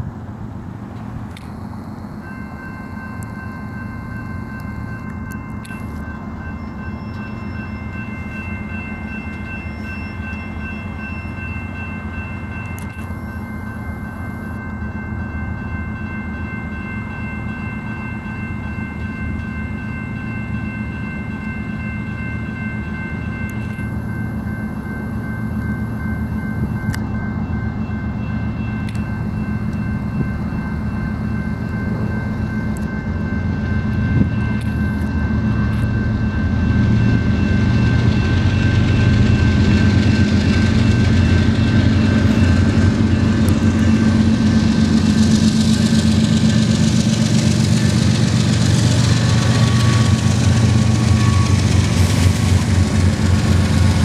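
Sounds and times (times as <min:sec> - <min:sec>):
diesel locomotives rumbling: 0:00.0 - 0:54.0.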